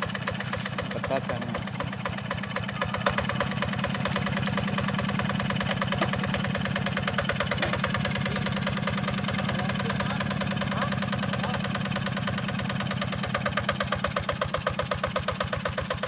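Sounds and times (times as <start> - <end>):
diesel engine chugging: 0.0 - 16.0.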